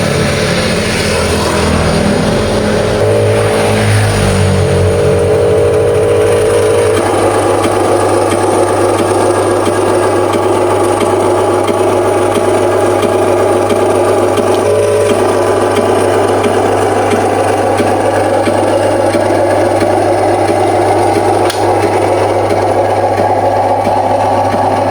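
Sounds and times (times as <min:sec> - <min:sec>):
model truck gearbox grinding: 0:00.0 - 0:24.9.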